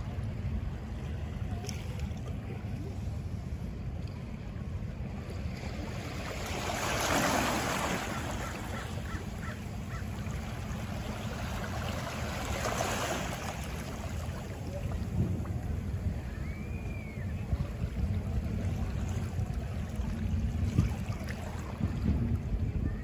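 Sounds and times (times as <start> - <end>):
steady low rumble: 0.0 - 7.0, 8.0 - 23.0
ocean surf: 0.0 - 23.0
waves washing out: 0.0 - 23.0.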